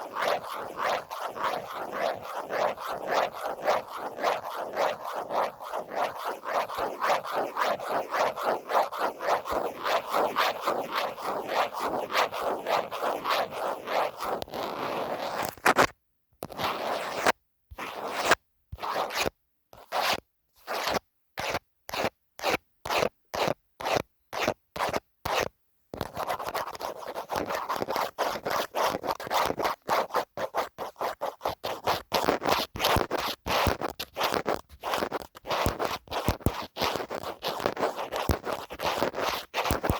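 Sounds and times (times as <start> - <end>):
scratching on phone case: 0.0 - 39.9.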